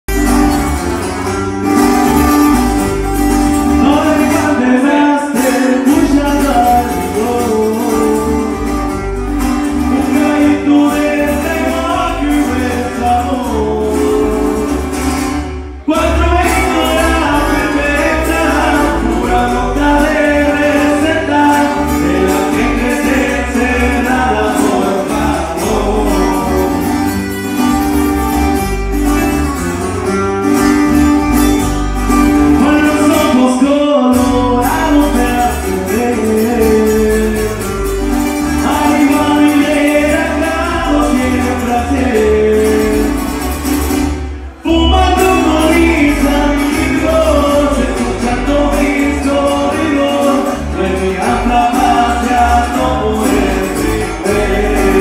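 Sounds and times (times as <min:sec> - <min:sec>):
guitars: 0:00.0 - 0:55.0
steady bass line: 0:00.0 - 0:55.0
person singing: 0:03.5 - 0:09.0, 0:09.6 - 0:27.6, 0:32.4 - 0:43.4, 0:44.6 - 0:55.0.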